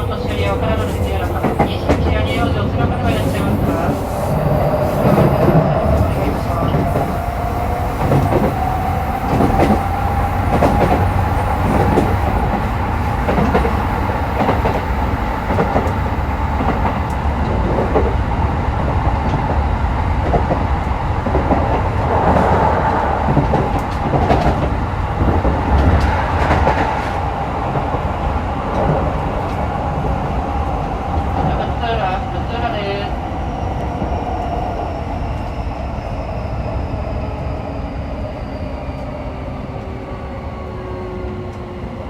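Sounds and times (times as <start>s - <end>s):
train running low rumble: 0.0s - 42.0s.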